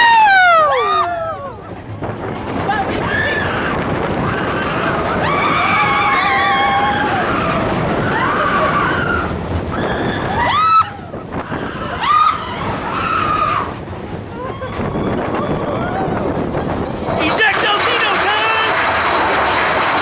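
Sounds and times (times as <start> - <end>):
riders whooping and screaming: 0.0 - 1.6, 2.7 - 20.0
roller coaster rumbling on track: 0.0 - 20.0.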